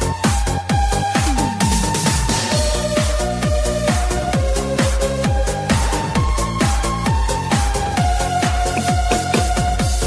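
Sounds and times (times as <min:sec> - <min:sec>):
electronic dance music: 0:00.0 - 0:07.0, 0:07.6 - 0:10.0.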